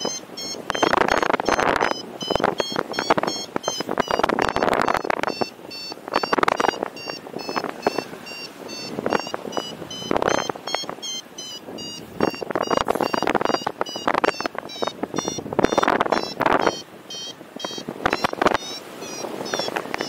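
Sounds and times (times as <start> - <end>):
variometer beeping rapidly: 0.0 - 20.0
wind gusts on microphone: 0.0 - 20.0.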